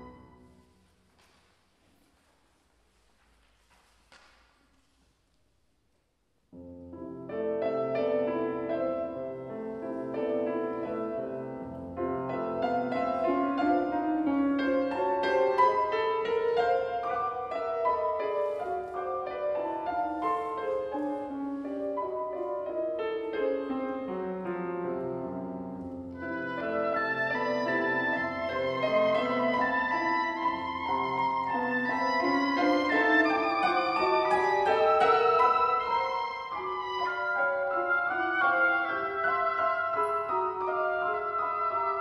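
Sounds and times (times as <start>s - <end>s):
piano and oboe chamber music: 0.0s - 1.1s, 6.5s - 42.0s.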